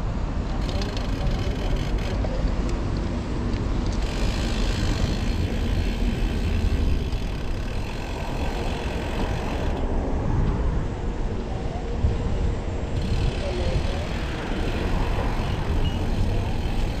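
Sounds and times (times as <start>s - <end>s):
road and traffic noise: 0.0s - 17.0s
wind buffeting microphone: 0.0s - 17.0s.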